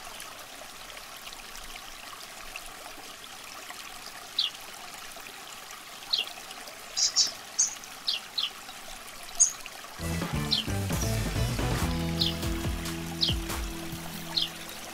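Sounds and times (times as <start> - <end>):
water trickling: 0.0 - 14.9.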